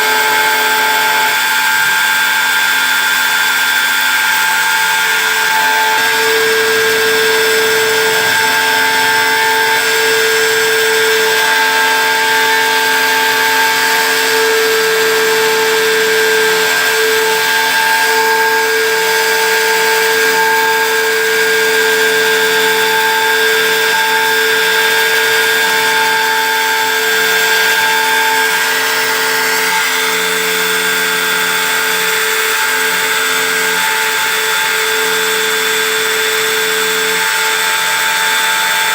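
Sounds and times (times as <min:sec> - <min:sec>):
engraving machine whine: 0:00.0 - 0:38.9.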